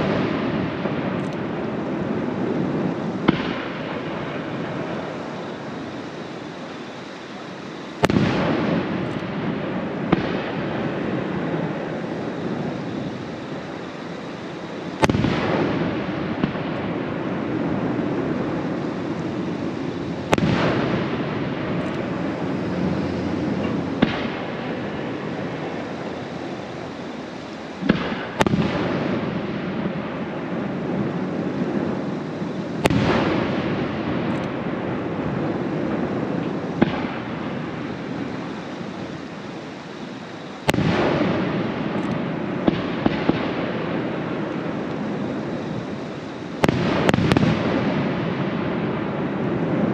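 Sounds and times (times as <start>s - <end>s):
fireworks bursting with crackling: 0.0s - 49.9s.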